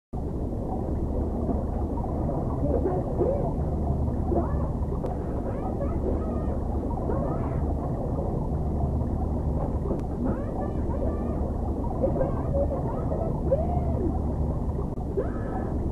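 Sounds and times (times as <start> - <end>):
muffled low hum: 0.2 - 15.9
wavering gliding tones: 0.6 - 15.9.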